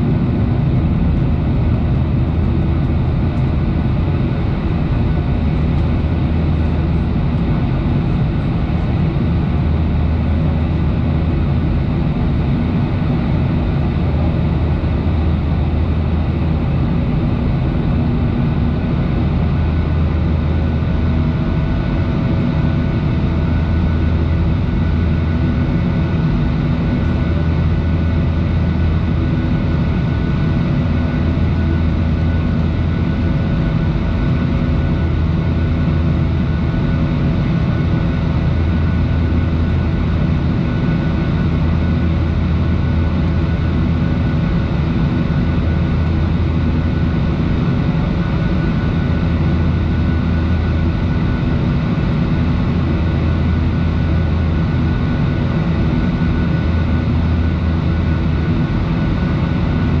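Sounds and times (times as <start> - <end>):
deep rumble: 0.0 - 60.0
jet engines droning: 0.0 - 60.0.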